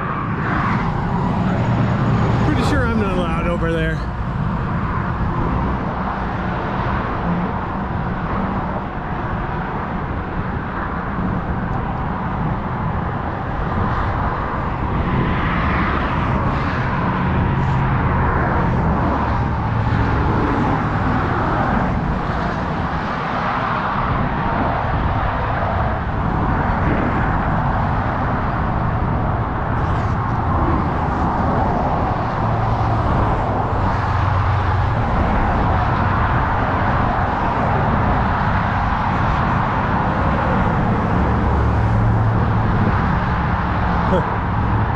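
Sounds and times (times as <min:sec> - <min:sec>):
highway traffic rumble: 0:00.0 - 0:44.9.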